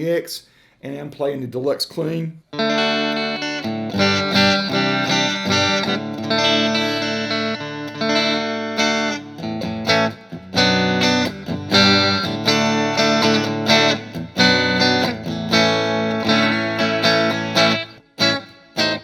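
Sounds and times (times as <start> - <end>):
electric guitar strumming chords: 2.5 - 19.0.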